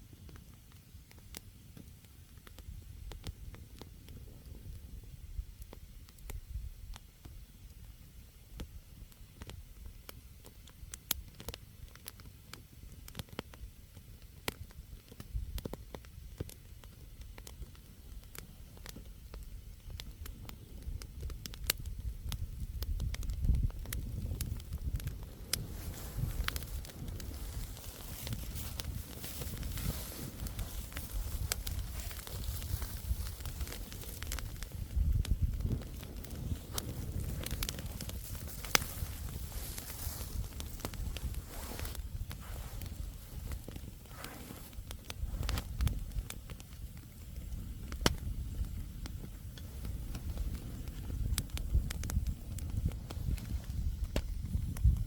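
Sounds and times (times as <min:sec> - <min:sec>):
campfire crackling and popping: 0:00.0 - 0:55.0
low fire rumble: 0:00.0 - 0:55.0.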